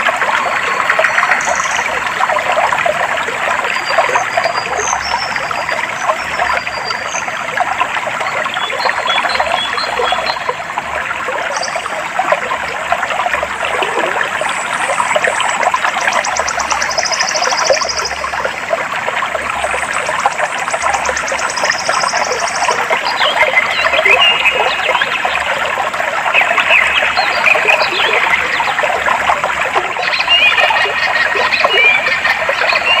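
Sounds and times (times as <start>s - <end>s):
stream babbling: 0.0s - 33.0s.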